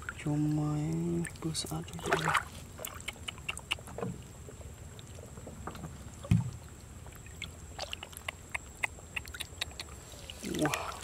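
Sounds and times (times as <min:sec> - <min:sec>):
small drips and clicks: 0:00.0 - 0:11.0
water lapping: 0:00.0 - 0:11.0.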